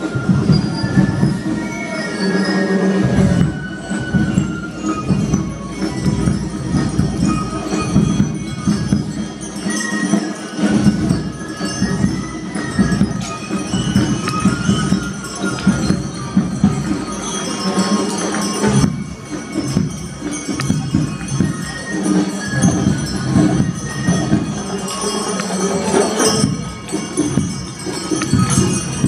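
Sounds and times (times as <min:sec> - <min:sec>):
small bells jingling: 0:00.0 - 0:29.0.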